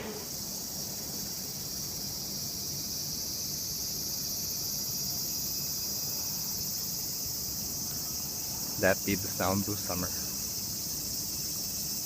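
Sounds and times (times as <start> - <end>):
cicadas calling: 0.0 - 12.0.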